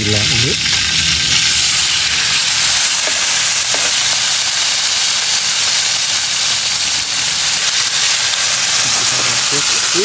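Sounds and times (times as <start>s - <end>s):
meat sizzling on grill pan: 0.0s - 10.0s.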